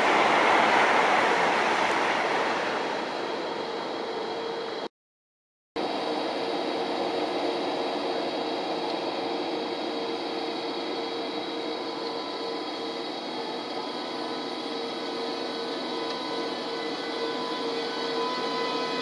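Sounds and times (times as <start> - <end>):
electric locomotive humming: 0.0 - 4.9, 5.8 - 19.0
locomotive whining tones: 0.0 - 4.9, 6.1 - 19.0.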